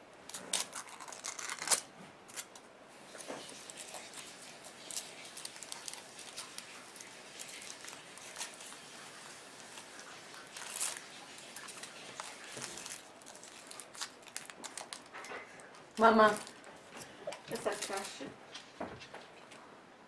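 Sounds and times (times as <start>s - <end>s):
foil wrapper crinkling: 0.2s - 18.3s.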